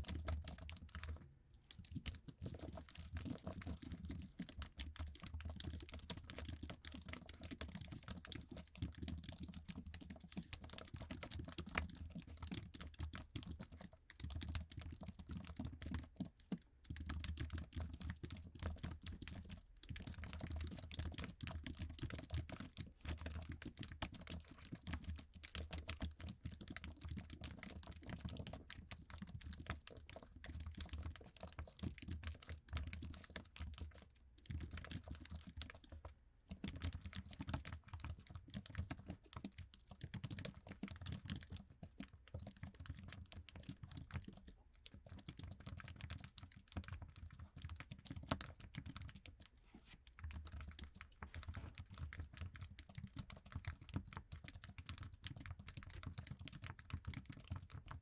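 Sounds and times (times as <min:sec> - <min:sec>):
fast typing on keyboard: 0:00.0 - 0:49.5, 0:50.1 - 0:58.0.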